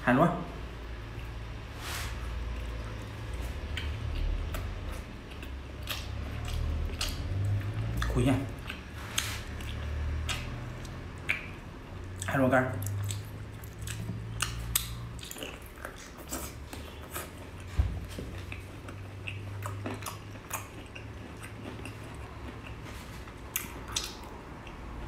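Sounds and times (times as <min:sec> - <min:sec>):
person chewing: 0:02.4 - 0:25.0.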